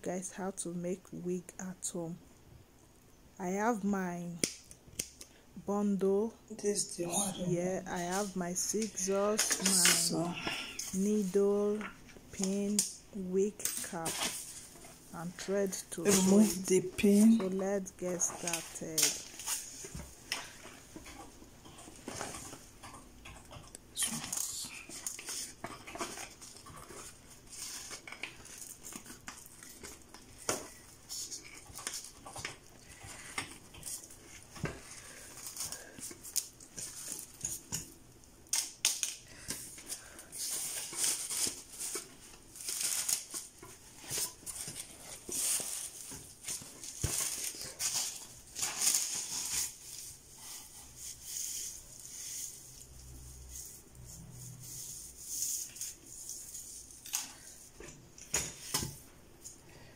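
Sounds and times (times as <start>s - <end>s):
wig hair rustling and scratching: 6.1s - 59.6s.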